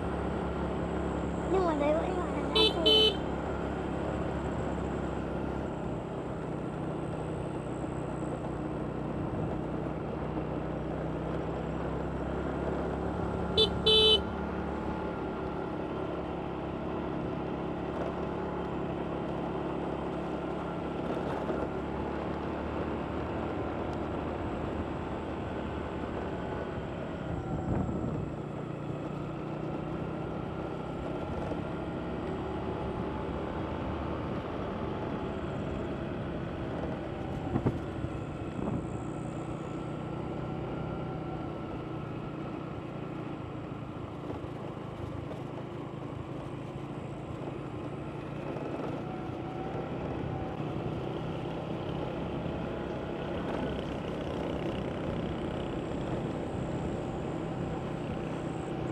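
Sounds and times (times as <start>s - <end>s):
road noise: 0.0s - 58.9s.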